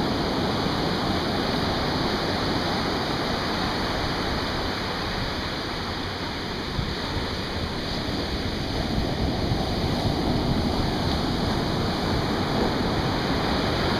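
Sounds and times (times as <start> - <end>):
surf washing up beach: 0.0 - 13.9.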